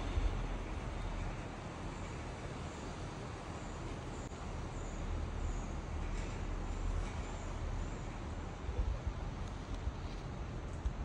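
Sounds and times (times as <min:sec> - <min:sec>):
chairlift rumble and hiss: 0:00.0 - 0:11.0.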